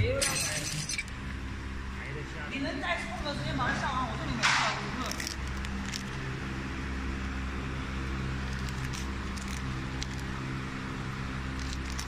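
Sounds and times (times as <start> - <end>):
packing machine humming: 0.0 - 12.0.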